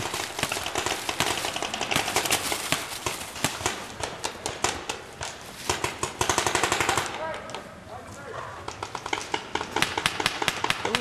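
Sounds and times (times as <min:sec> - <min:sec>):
paintball guns popping: 0:00.0 - 0:07.6, 0:08.6 - 0:11.0.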